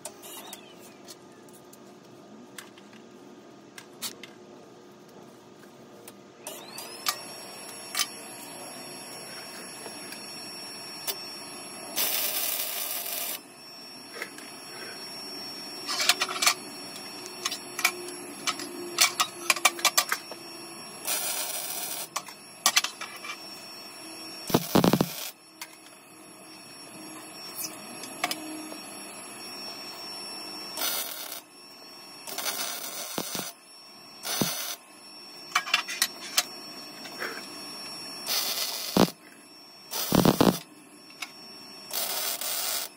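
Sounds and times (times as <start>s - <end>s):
welding hiss: 6.6s - 26.3s, 27.1s - 34.8s, 35.4s - 42.9s.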